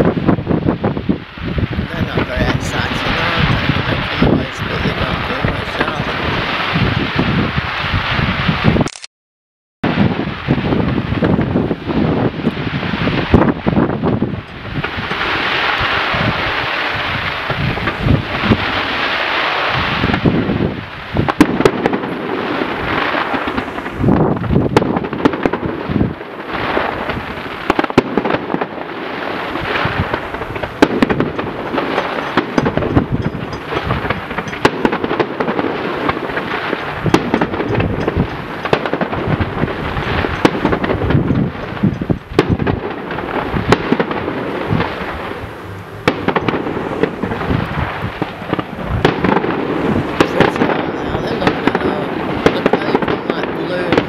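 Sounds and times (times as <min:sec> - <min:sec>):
fireworks bursts and booms: 0:00.0 - 0:08.9, 0:09.8 - 0:54.0.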